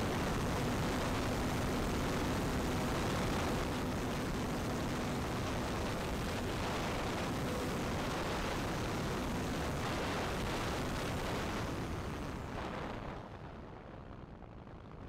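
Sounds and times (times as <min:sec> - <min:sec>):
faint motor and propeller hum: 0:00.0 - 0:15.0
wind rushing over microphone: 0:00.0 - 0:15.0.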